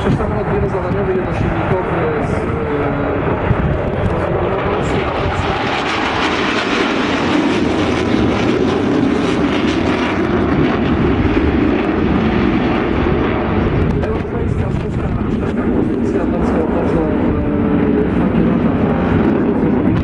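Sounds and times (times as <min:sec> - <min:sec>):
loud jet engine roar: 0:00.0 - 0:20.0.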